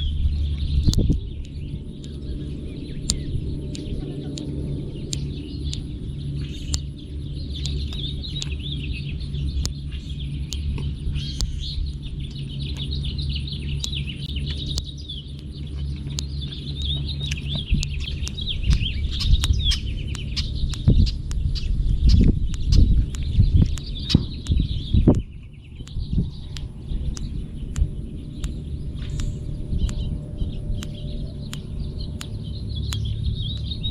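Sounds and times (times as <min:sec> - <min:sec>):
low hum: 0:00.0 - 0:33.9
small birds chirping: 0:00.0 - 0:33.9
sharp clicks: 0:00.5 - 0:33.9.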